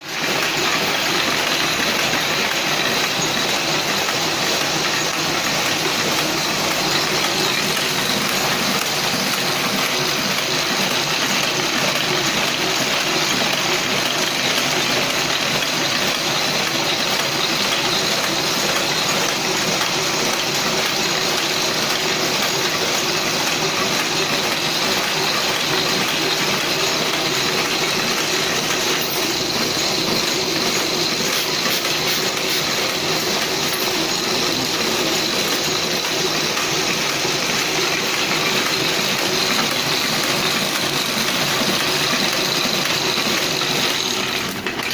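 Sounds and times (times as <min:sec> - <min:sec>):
printing press clattering: 0:00.0 - 0:44.9.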